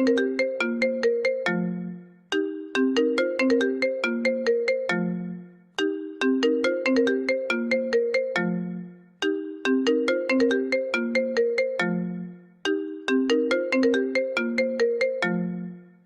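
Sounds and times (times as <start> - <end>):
phone ringtone bell-like notes: 0.0 - 15.9.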